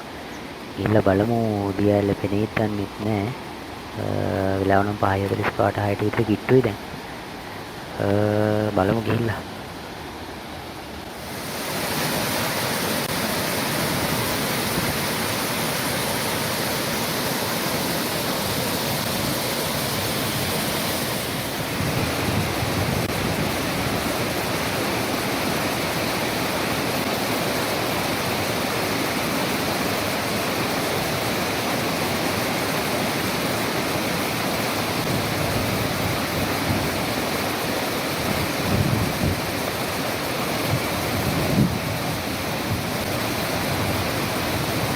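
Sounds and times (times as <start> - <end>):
waterfall roar: 0.0 - 44.9.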